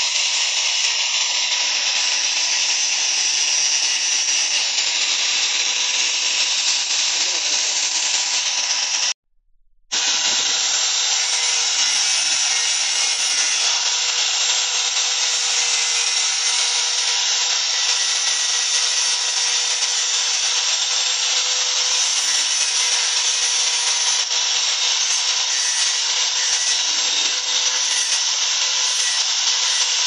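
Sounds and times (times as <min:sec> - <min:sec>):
angle grinder grinding metal: 0:00.0 - 0:09.2, 0:09.9 - 0:30.0.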